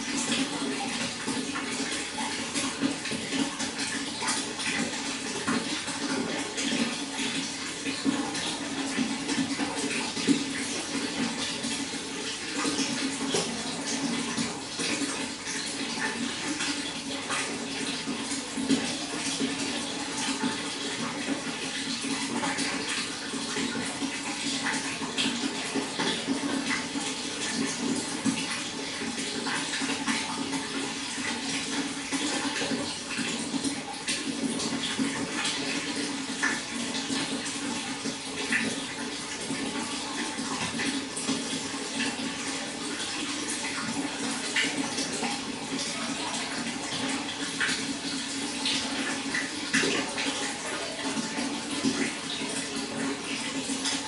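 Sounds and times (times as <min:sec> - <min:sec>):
running water splashing: 0:00.0 - 0:54.0.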